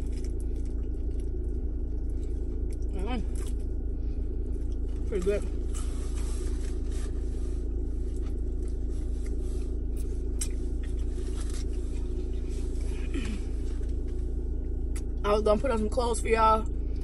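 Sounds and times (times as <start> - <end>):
low hum in car cabin: 0.0 - 17.0.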